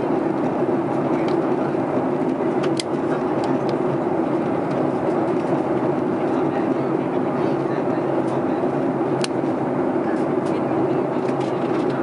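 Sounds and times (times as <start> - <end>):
jet engine and airflow rush: 0.0 - 12.0.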